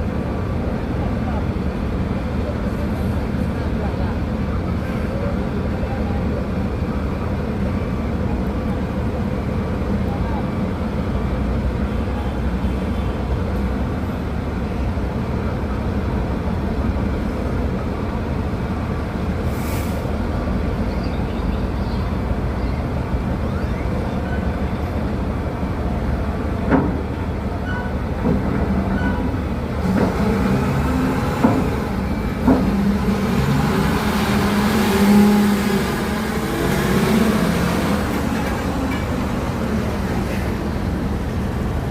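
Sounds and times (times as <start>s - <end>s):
dump truck diesel engines rumbling: 0.0s - 41.9s.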